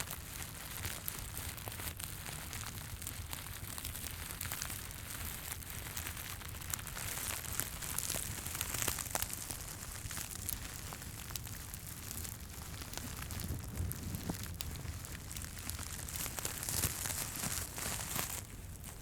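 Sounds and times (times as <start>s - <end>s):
crinkling and rustling: 0.0s - 19.0s
fireplace crackling and popping: 0.0s - 19.0s
low steady rumble: 2.2s - 19.0s.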